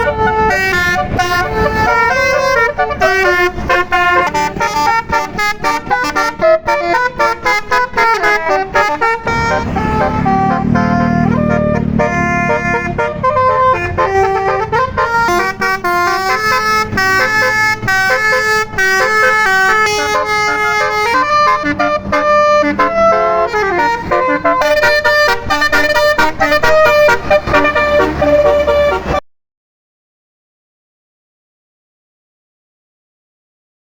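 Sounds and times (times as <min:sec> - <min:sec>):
musical bus horn melody: 0:00.0 - 0:29.2.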